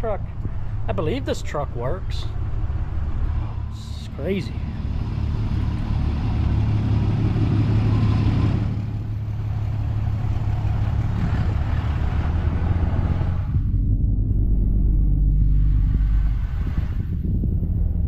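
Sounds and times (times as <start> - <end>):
large engine idling: 0.0 - 12.8, 13.4 - 18.0.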